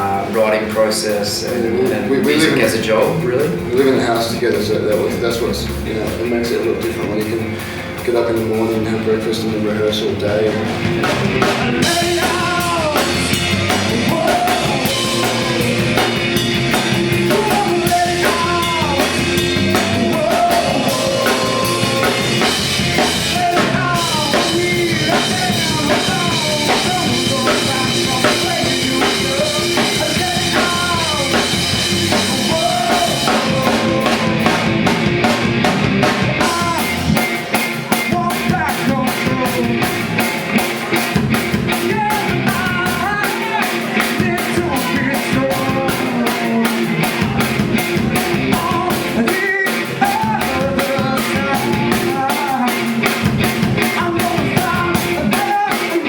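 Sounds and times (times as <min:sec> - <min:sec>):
drum kit beat: 0:00.0 - 0:56.0
rock band playing: 0:00.0 - 0:56.0.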